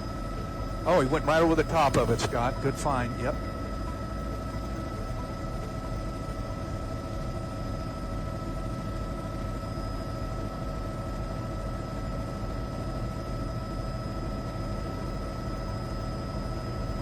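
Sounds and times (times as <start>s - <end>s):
helicopter cabin drone: 0.0s - 17.0s.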